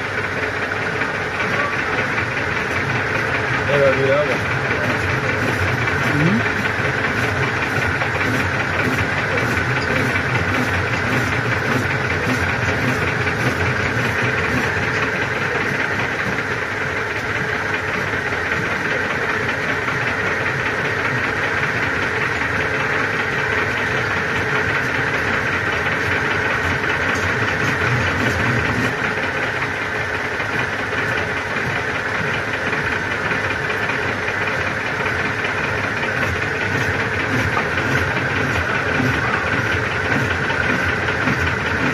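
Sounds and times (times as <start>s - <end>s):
metal lathe running: 0.0s - 41.9s.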